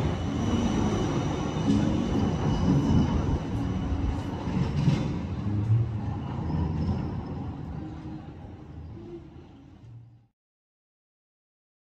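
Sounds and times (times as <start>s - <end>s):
street background noise: 0.0s - 10.3s
tram rumbling along track: 0.0s - 10.3s.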